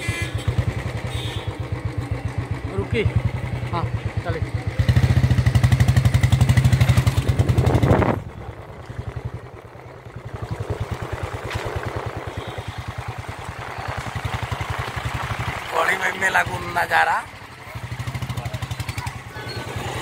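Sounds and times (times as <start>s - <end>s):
motorcycle engine putting: 0.1s - 20.0s.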